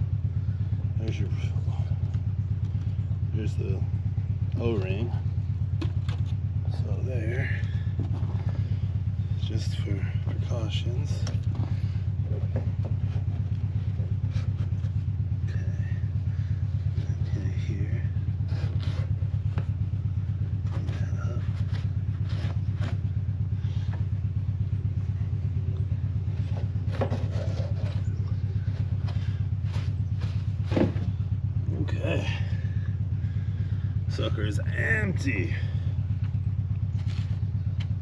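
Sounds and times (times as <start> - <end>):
motor humming: 0.0 - 38.0.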